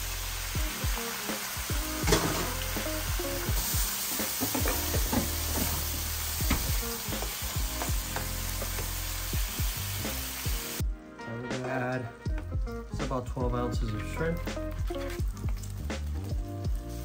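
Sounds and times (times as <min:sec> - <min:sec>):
wine sizzling in hot pan: 0:00.0 - 0:10.8, 0:13.8 - 0:17.0.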